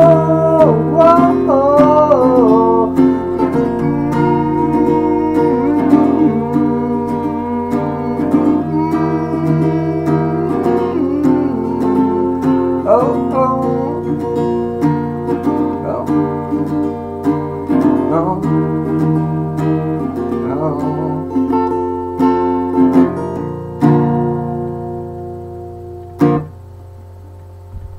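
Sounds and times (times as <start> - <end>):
guitar strumming chords: 0.0 - 27.0.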